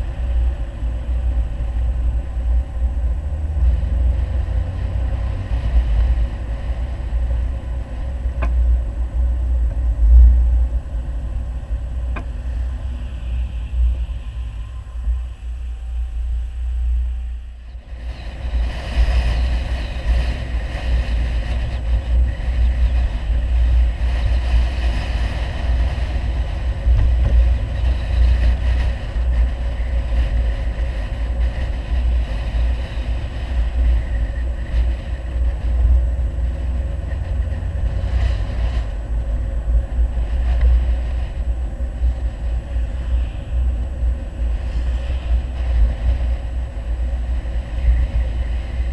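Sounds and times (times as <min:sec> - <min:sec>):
car engine rumbling while driving: 0:00.0 - 0:48.9.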